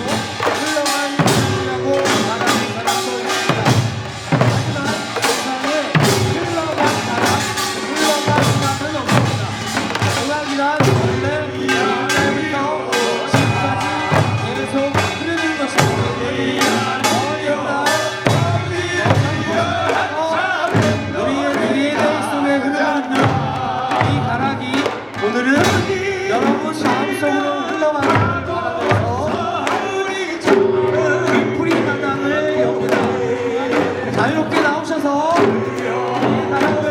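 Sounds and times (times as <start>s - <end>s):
drum beat: 0.0s - 36.9s
person singing: 0.0s - 36.9s.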